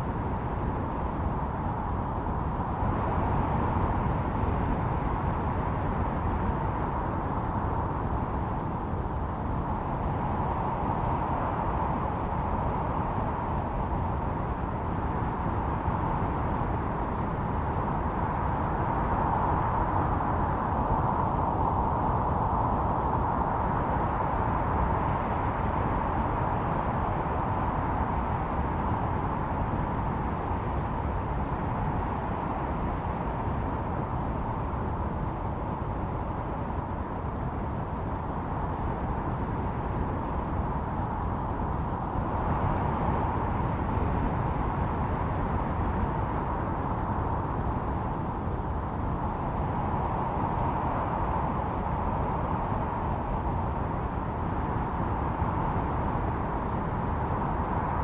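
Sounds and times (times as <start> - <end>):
blizzard wind howling: 0.0 - 58.0.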